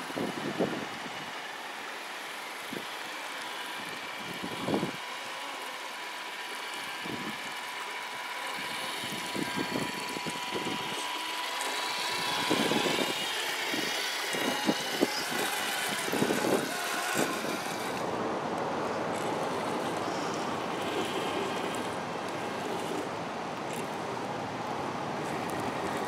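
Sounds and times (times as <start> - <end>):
steady rushing noise: 0.0 - 5.4, 6.1 - 26.0
rc truck electric motors whining: 0.0 - 26.0.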